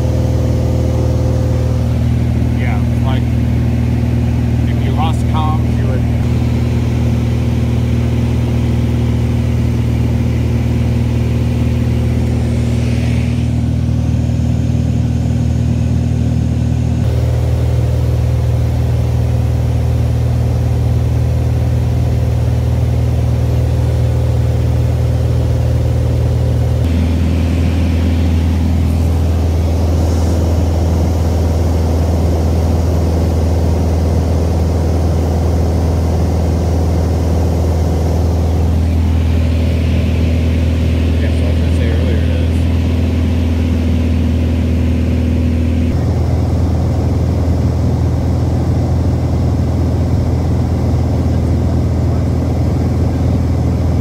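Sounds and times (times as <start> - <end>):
aircraft engine and propeller droning: 0.0 - 54.0.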